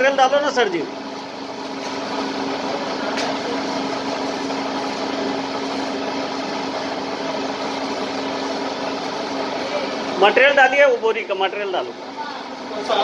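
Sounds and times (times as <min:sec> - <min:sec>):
pellet machine motor humming: 0:00.0 - 0:13.0.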